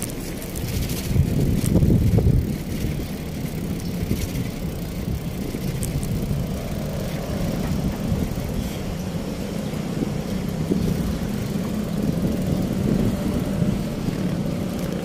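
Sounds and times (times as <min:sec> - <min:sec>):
bicycle bump: 0:00.0 - 0:15.0
bicycle tyres rumbling on pavement: 0:00.0 - 0:15.0
city traffic: 0:00.0 - 0:15.0.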